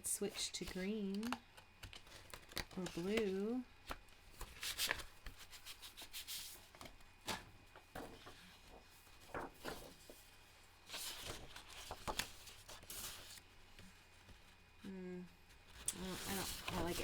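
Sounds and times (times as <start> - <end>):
paper rustling: 0.6 - 14.7, 15.4 - 17.0.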